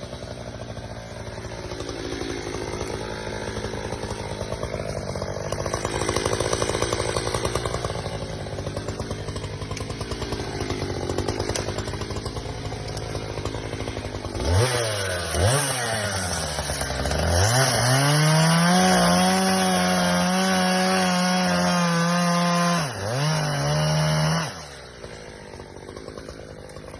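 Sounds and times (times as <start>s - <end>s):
chainsaw engine revving: 0.0s - 26.9s.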